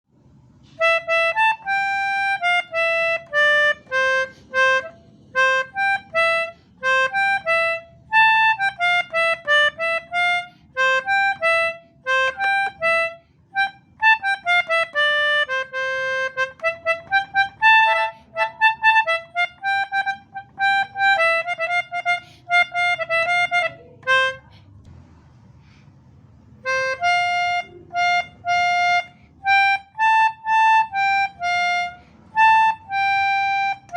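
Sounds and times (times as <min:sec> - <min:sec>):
melodica playing short notes: 0:00.6 - 0:24.6, 0:26.6 - 0:33.9.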